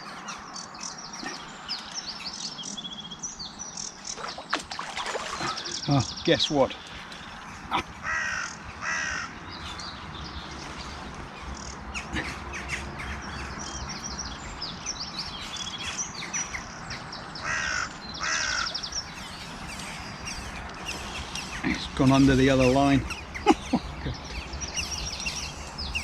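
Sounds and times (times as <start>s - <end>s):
small birds chirping and trilling: 0.0s - 26.0s
wild birds calling: 0.0s - 26.0s.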